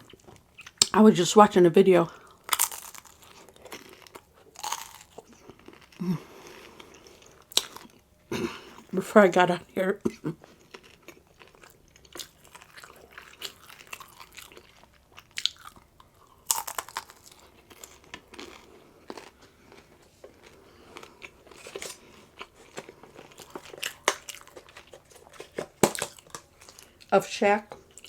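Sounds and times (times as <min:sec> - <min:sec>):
chewing crunchy food: 0:00.0 - 0:00.9, 0:02.1 - 0:08.9, 0:10.1 - 0:27.1, 0:27.7 - 0:28.0.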